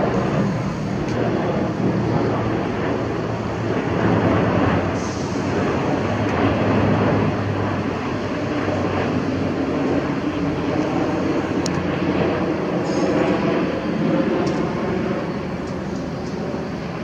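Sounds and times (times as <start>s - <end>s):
jet airliner rumble overhead: 0.0s - 17.0s.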